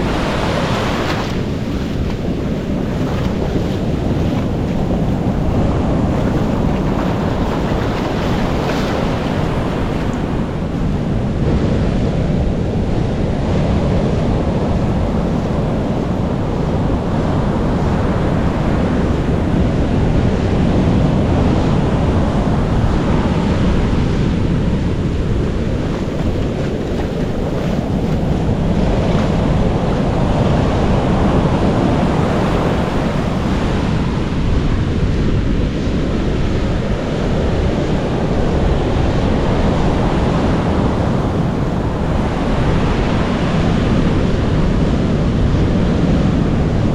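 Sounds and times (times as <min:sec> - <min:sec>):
surf washing onto beach: 0:00.0 - 0:35.4, 0:36.1 - 0:46.9
wind rumbling on microphone: 0:00.0 - 0:46.9.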